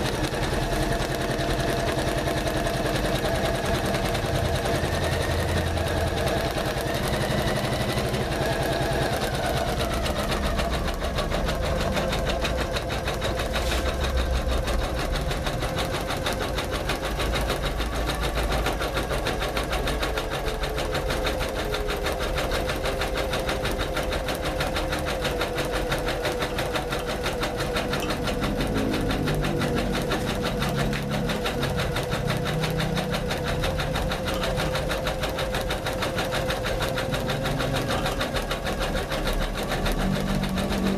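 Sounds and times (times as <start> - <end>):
embroidery machine stitching: 0.0 - 40.9.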